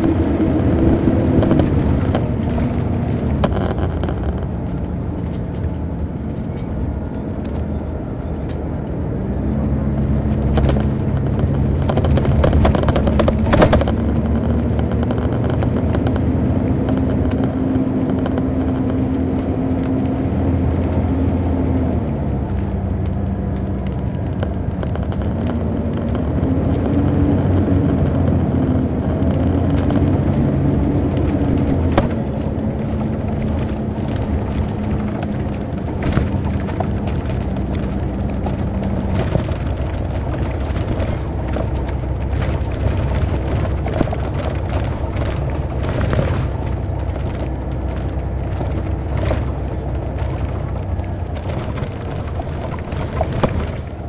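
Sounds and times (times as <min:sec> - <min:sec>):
rattles and knocks: 0:00.0 - 0:07.9, 0:10.0 - 0:21.1, 0:22.5 - 0:54.0
diesel bus engine inside cabin: 0:00.0 - 0:54.0.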